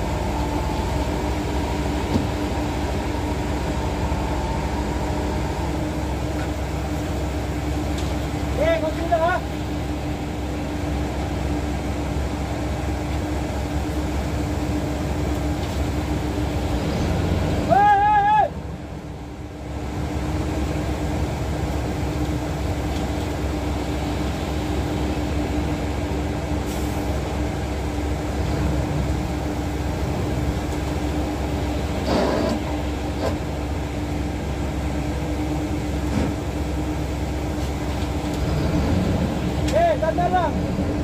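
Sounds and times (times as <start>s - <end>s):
diesel machinery drone: 0.0s - 41.0s.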